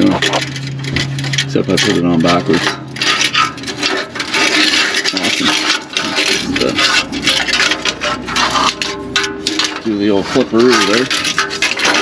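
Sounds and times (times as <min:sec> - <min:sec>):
metal exhaust parts clinking: 0:00.0 - 0:12.0.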